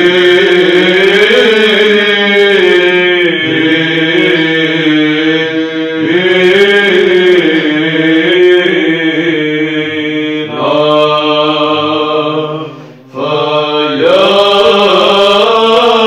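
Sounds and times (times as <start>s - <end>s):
held vocal drone: 0.0s - 16.0s
monks chanting: 0.0s - 16.0s.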